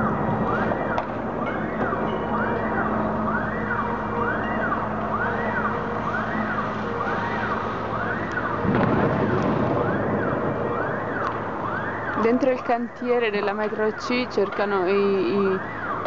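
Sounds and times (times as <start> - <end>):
siren wailing: 0.0 - 16.0
street noise: 0.0 - 16.0.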